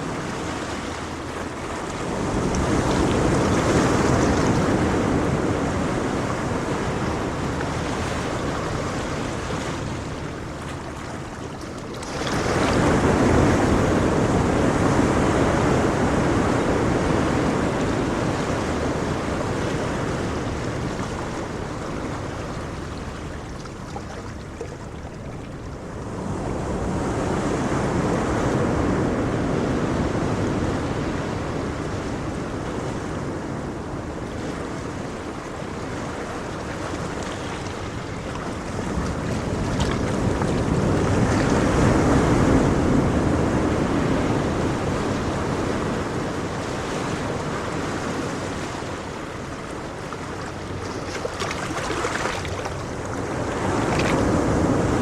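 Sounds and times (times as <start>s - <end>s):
ocean waves crashing: 0.0s - 55.0s.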